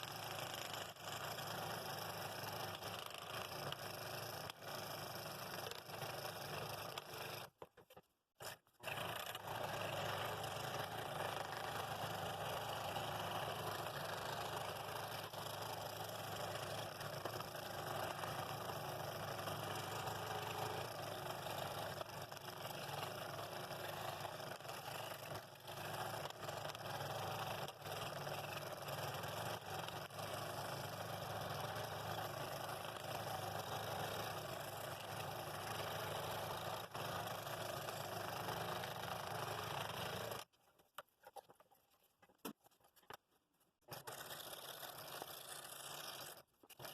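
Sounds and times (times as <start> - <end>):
scroll saw cutting wood: 0.0 - 40.5, 43.8 - 46.9.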